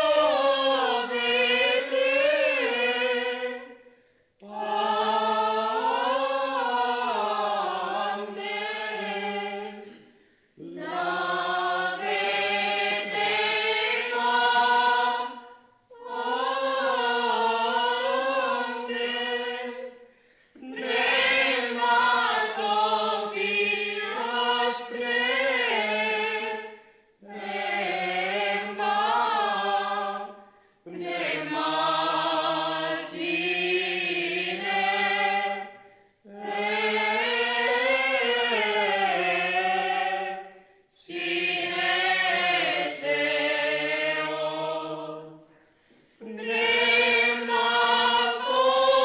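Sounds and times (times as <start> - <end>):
choir chanting: 0.0 - 49.0.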